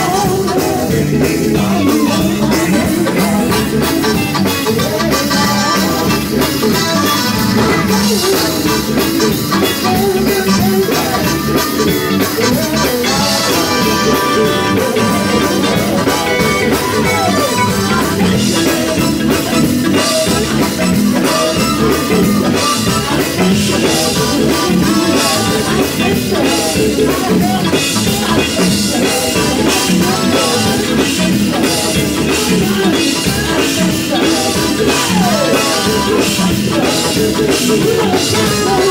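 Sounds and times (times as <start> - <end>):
drum kit beat: 0.0 - 38.9
electric guitar: 0.0 - 38.9
male voices singing gospel: 0.0 - 38.9.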